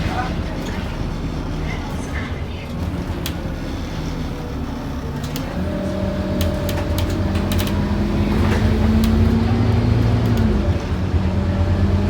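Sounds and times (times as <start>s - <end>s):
bus diesel engine under load: 0.0s - 12.0s.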